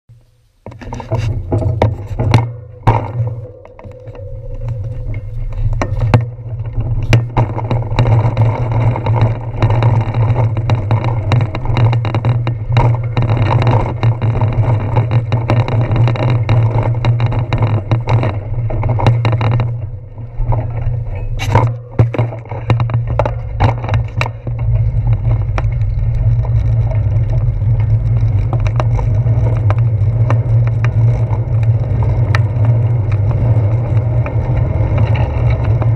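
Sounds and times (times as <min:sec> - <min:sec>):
bicycle ride rumble: 0:00.0 - 0:35.9
bike knocks and rattles: 0:00.1 - 0:35.9.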